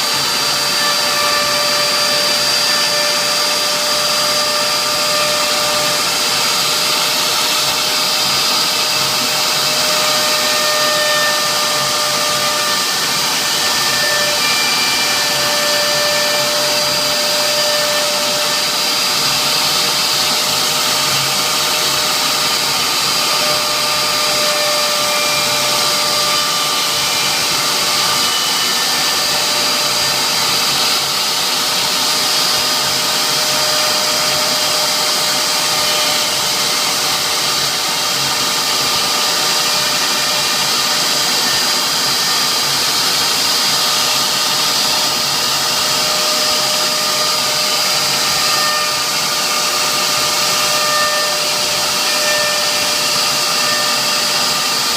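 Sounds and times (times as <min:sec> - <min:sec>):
hiss of cutting wood: 0:00.0 - 0:54.9
router spindle whining: 0:00.0 - 0:54.9.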